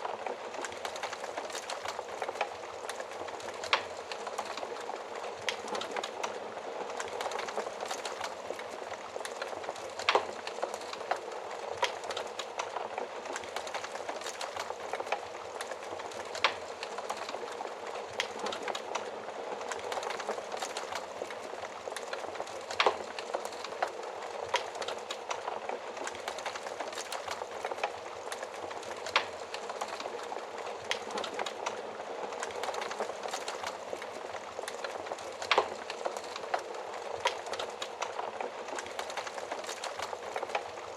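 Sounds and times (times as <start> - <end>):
fire popping: 0.0 - 40.9
wood fire hissing and crackling: 0.0 - 40.9.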